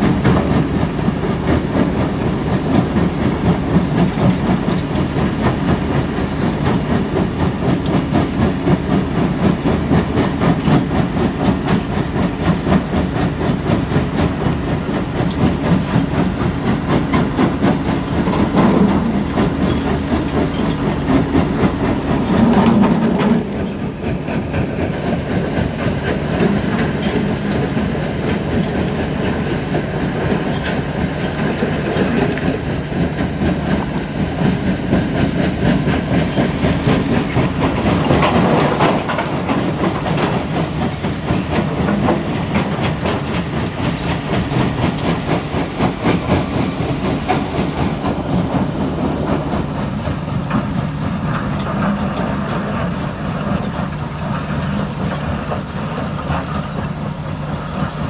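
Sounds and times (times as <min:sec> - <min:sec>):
heavy diesel machinery drone: 0:00.0 - 0:58.0.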